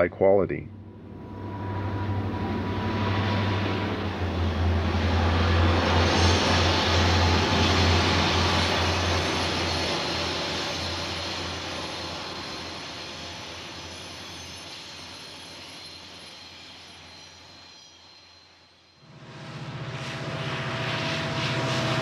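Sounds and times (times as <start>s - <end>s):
locomotive engine drone: 0.0s - 17.6s, 19.0s - 22.0s
wheel and rail noise: 1.1s - 22.0s.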